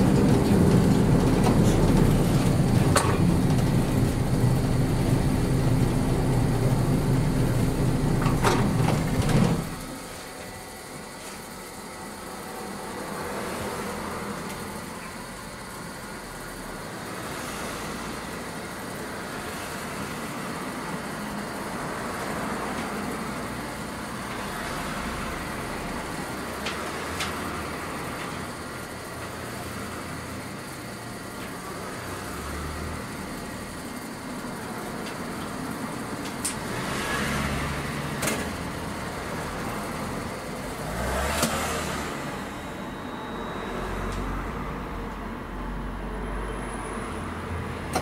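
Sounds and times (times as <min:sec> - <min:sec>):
bus engine and road noise: 0:00.0 - 0:48.0.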